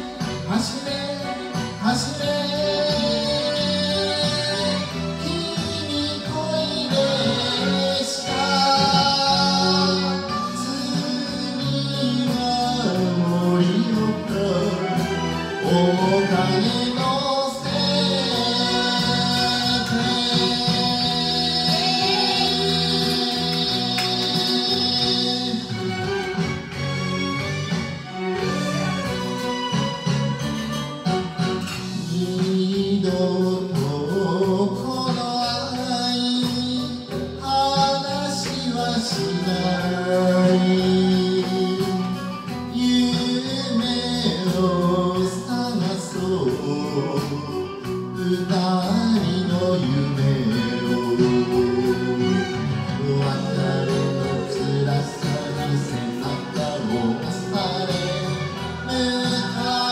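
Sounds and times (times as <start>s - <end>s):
man singing into microphone: 0.0s - 26.8s, 31.6s - 59.9s
karaoke backing track: 0.0s - 59.9s.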